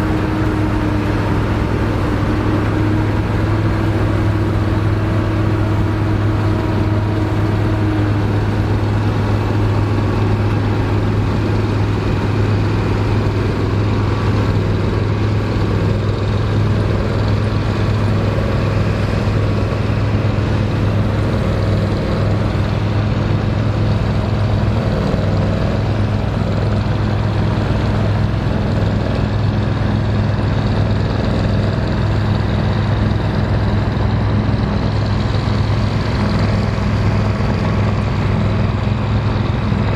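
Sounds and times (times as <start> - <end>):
combine harvester engine drone: 0.0 - 39.9
working machinery noise: 0.0 - 39.9.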